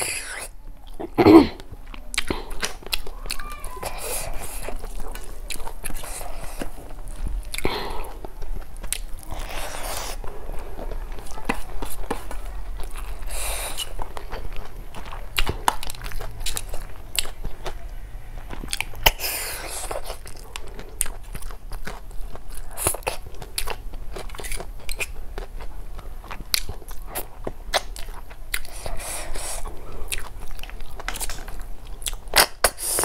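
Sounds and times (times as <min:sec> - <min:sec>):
wet chewing and crunching: 0:00.0 - 0:33.0.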